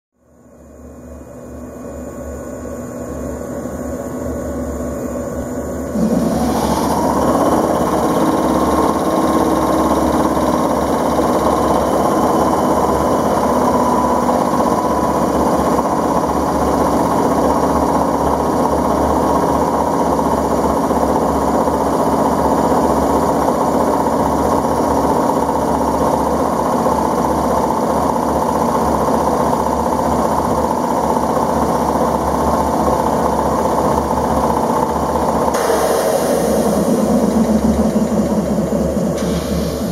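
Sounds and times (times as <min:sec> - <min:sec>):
electric air compressor running: 0:05.9 - 0:39.9.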